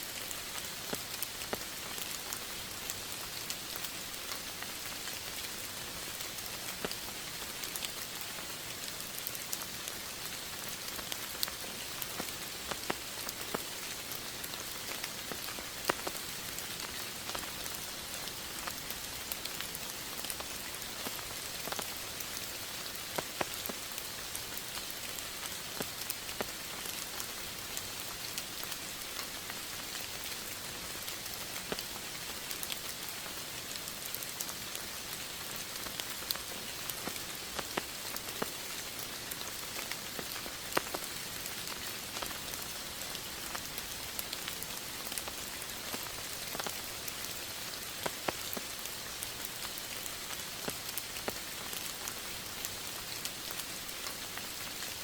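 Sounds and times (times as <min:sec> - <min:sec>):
steady rain: 0:00.0 - 0:55.0
raindrops ticking: 0:06.2 - 0:55.0.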